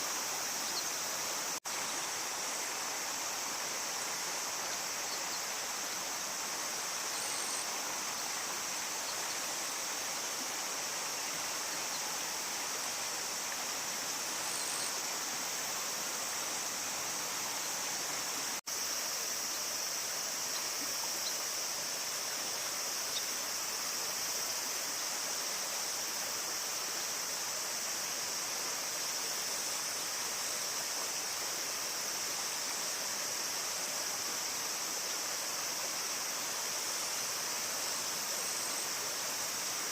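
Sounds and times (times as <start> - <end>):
high-pitched insect chorus: 0.0 - 39.9
river water rushing: 0.0 - 39.9.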